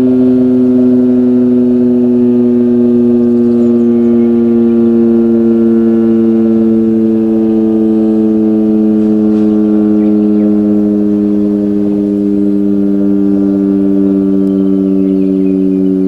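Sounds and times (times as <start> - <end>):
warning siren falling tone: 0.0 - 16.0.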